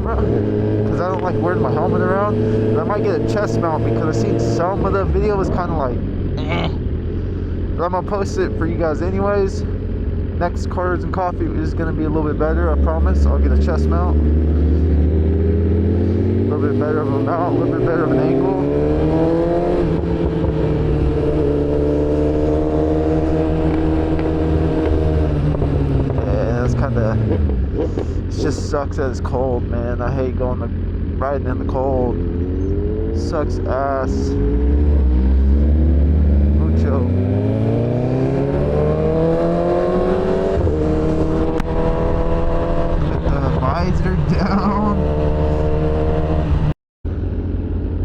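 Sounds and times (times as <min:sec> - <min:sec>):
low wind rumble: 0:00.0 - 0:48.0
motorcycle engine accelerating: 0:00.0 - 0:48.0.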